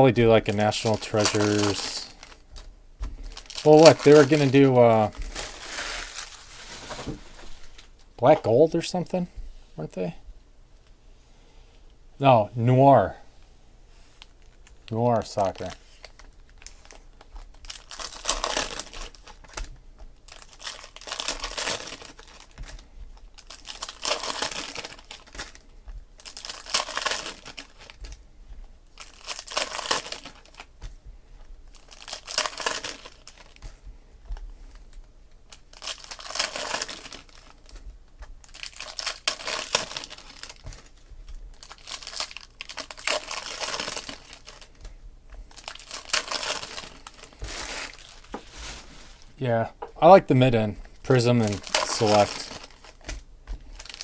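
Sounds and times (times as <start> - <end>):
foil card packs tearing and crinkling: 0.0 - 7.9, 14.2 - 28.2, 28.9 - 30.8, 31.7 - 33.8, 34.6 - 49.3, 51.0 - 54.0.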